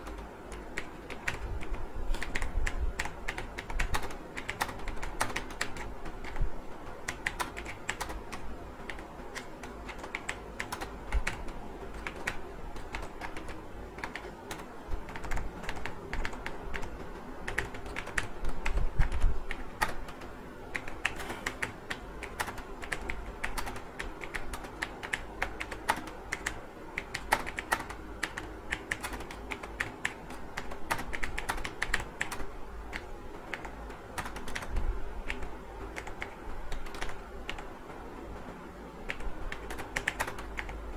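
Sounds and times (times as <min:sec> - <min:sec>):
keyboard typing clicks: 0:00.0 - 0:06.4, 0:07.0 - 0:37.7, 0:39.1 - 0:40.8.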